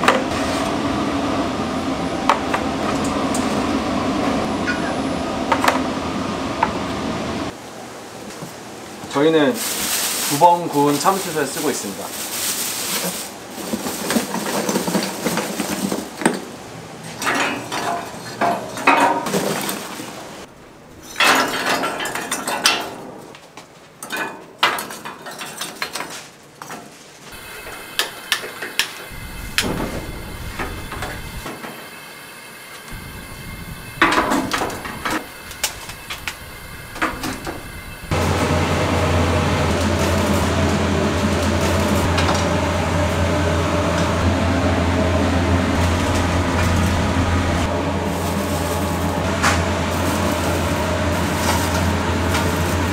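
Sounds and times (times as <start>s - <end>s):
steady background hum: 0.0s - 24.0s, 26.3s - 52.9s.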